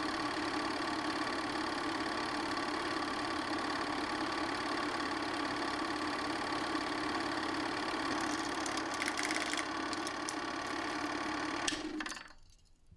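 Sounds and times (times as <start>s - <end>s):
film projector hum and clatter: 0.0s - 12.3s.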